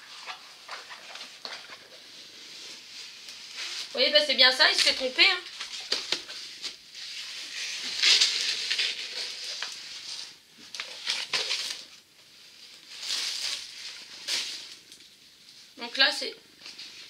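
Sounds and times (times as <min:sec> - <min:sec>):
canvas rustling and crinkling: 0:00.0 - 0:15.8.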